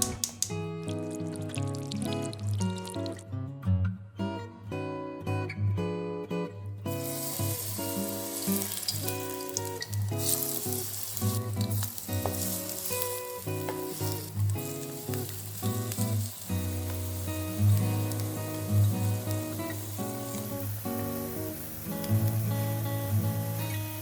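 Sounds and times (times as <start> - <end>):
batter sizzling in oil: 0.0 - 3.2, 6.9 - 24.0.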